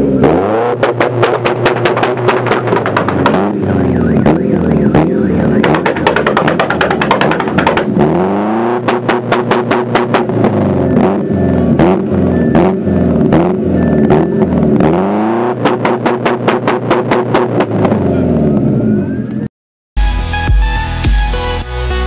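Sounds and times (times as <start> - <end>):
car engine revving: 0.0 - 19.2
exhaust cracks: 0.2 - 18.8.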